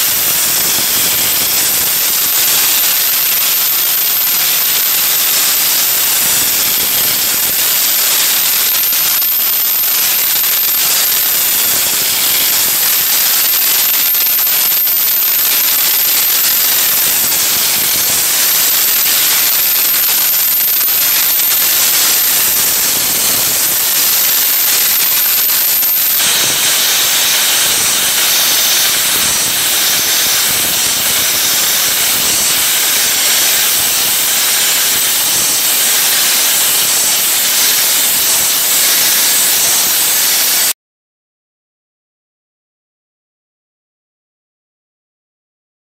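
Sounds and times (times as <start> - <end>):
dry-ice blasting gun hissing: 0.0 - 40.8.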